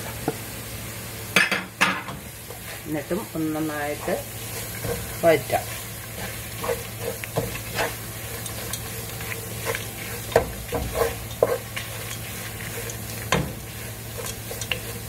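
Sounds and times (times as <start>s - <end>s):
wooden spatula scraping a pan: 2.4s - 15.0s.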